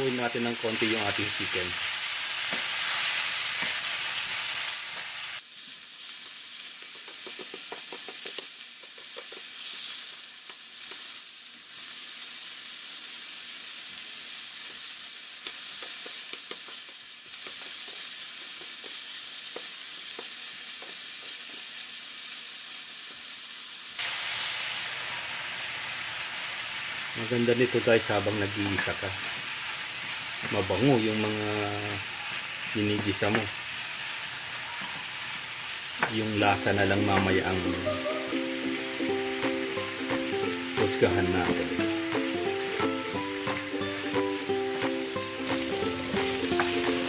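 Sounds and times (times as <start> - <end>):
chicken sizzling in oil: 0.0 - 47.0.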